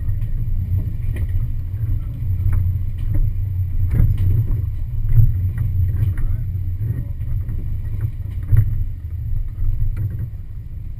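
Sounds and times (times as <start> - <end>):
off-road vehicle engine running low: 0.0 - 10.9.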